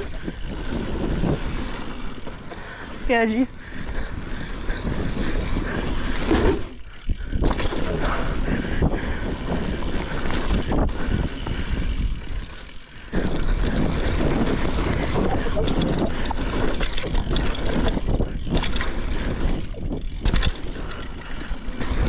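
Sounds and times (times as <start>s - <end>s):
bike tyres rushing on dirt: 0.0s - 22.0s.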